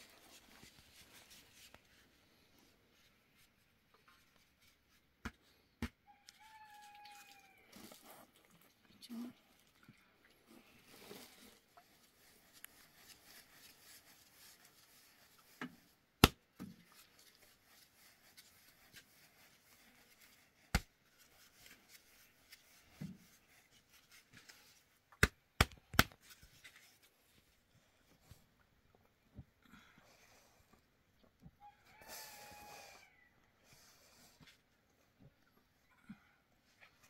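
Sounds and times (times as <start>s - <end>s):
faint rustling and handling: 0.0s - 25.2s, 25.9s - 32.0s.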